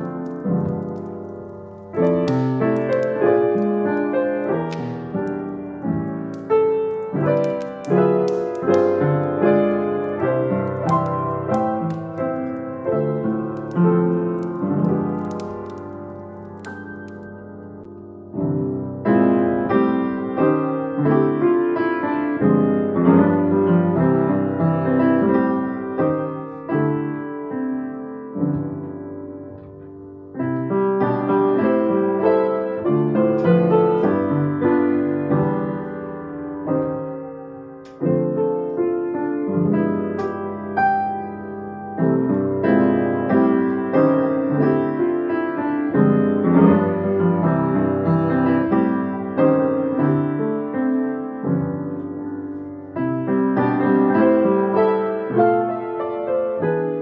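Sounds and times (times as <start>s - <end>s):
slow solo piano piece: 0.0s - 57.0s.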